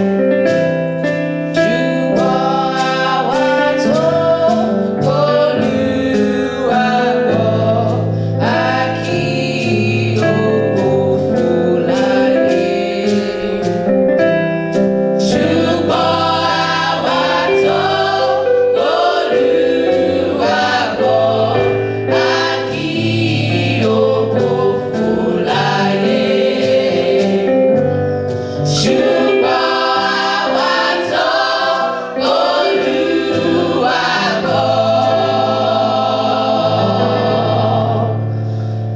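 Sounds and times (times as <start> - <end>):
instrumental backing: 0.0 - 38.9
choir of young women singing: 1.5 - 13.7, 15.2 - 38.7.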